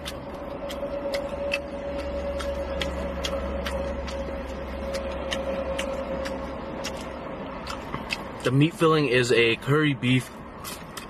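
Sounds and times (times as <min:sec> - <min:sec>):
sharp ticking: 0:00.0 - 0:09.6
low steady hum: 0:00.0 - 0:11.0.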